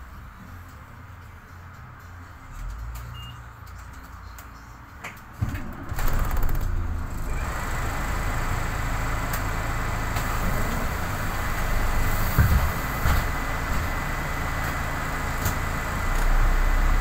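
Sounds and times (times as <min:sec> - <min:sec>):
bus engine: 0:00.0 - 0:17.0
bus doors closing with clatter: 0:02.6 - 0:17.0.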